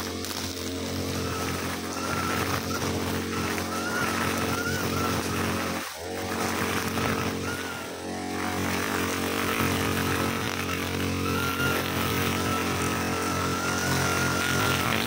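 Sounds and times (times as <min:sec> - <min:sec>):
brushcutter engine trimming grass: 0:00.0 - 0:15.0.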